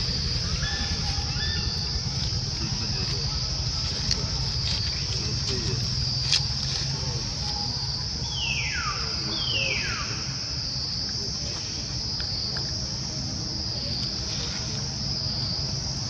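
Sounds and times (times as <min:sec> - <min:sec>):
insects droning: 0:00.0 - 0:16.0
low rumbling noise: 0:00.0 - 0:16.0.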